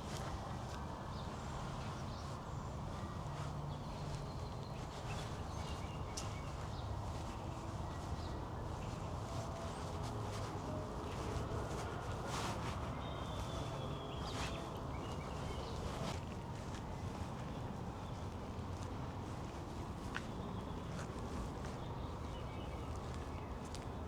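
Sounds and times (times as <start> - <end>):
city traffic rumble: 0.0 - 24.0
soft footsteps: 0.0 - 24.0.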